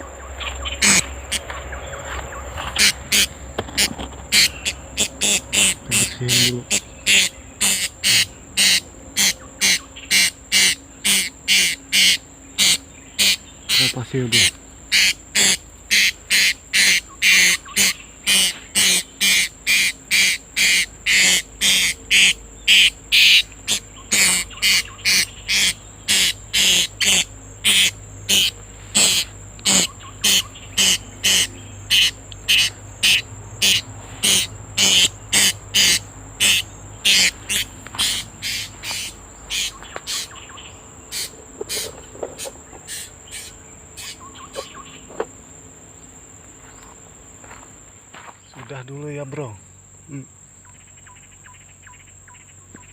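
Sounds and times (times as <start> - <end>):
loud rhythmic chirps: 0.0 - 45.1
high-pitched insect drone: 0.0 - 48.3.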